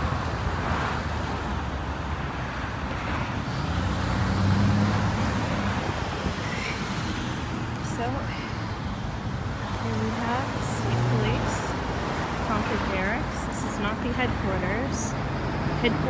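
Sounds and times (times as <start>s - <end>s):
passing vehicle hum: 0.0s - 16.0s
road traffic rumble: 0.0s - 16.0s.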